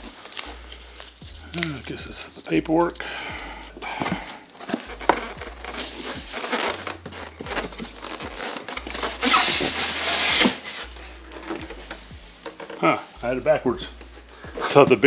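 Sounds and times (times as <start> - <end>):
paper and packing rustling: 0.0 - 15.0.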